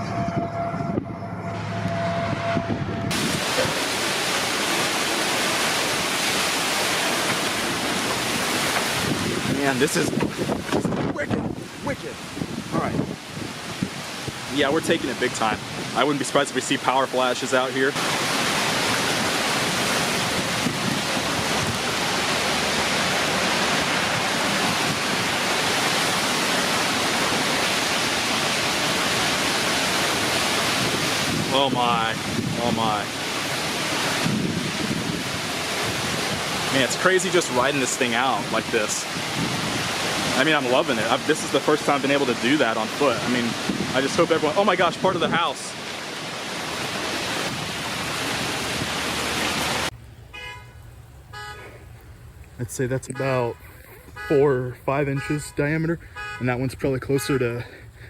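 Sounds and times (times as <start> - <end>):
wind blasting across microphone: 0.0 - 16.5, 17.9 - 49.9.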